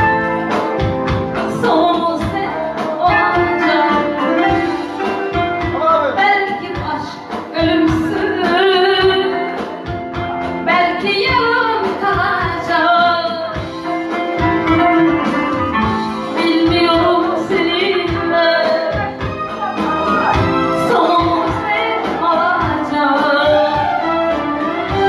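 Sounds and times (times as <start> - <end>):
instrumental backing with drum beat: 0.0 - 25.0
woman singing: 1.3 - 9.8, 10.6 - 13.8, 14.6 - 25.0.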